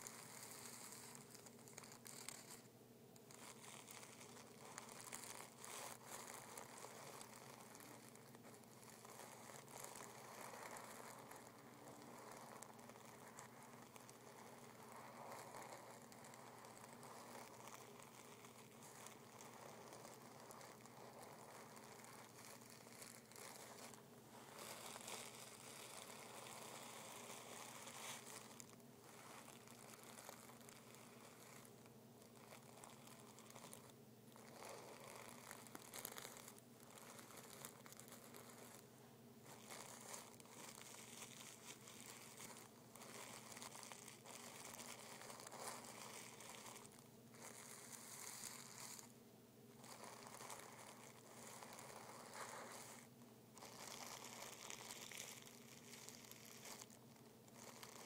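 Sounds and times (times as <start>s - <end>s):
fingertips crinkling tissue paper: 0.0s - 49.2s, 49.8s - 58.0s.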